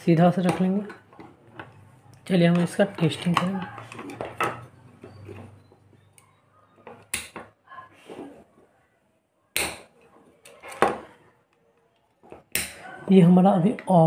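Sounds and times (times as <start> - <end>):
wires rustling: 0.0 - 8.9, 9.8 - 14.0.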